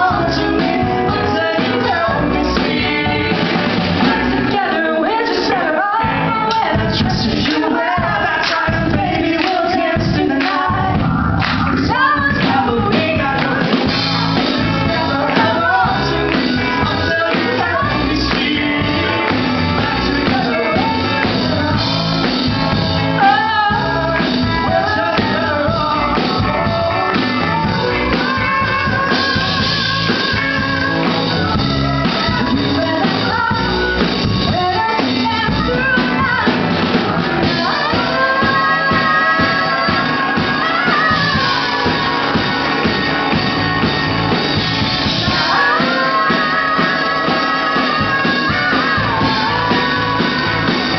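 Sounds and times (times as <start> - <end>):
man singing: 0.0 - 43.3, 45.1 - 50.9
bass guitar: 0.0 - 50.9
drum kit: 0.0 - 50.9
electric guitar: 0.0 - 50.9
woman singing: 0.0 - 50.9.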